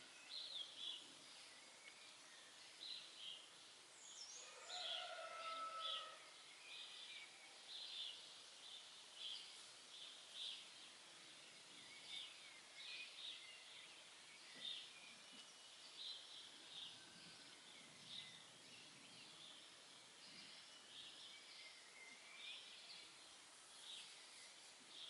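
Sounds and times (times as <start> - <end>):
soft steady hiss: 0.0 - 25.0
songbirds chirping: 0.0 - 25.0.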